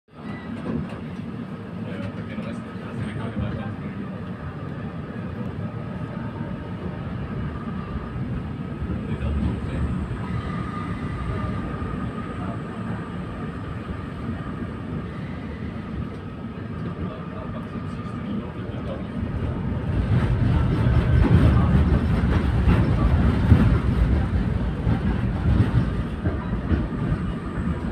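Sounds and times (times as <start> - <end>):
tram wheels rumbling on rails: 0.2 - 27.9.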